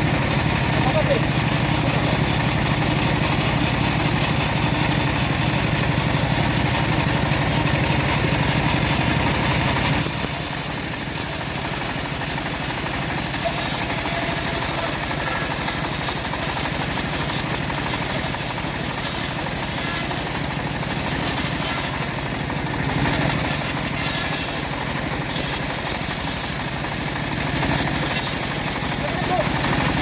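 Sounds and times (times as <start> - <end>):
chainsaw running at high speed: 0.0 - 30.0.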